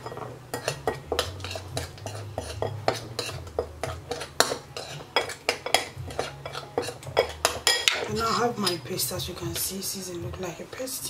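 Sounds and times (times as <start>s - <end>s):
metal spoon clinking in bowl: 0.0s - 8.9s.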